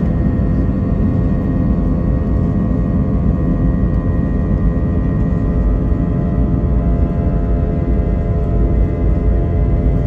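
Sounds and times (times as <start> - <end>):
jet engine roaring and whining: 0.0 - 10.0.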